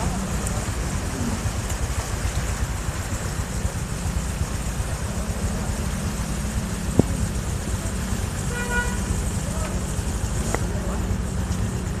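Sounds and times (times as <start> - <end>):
car engine running low: 0.0 - 12.0
steady hum: 0.0 - 12.0.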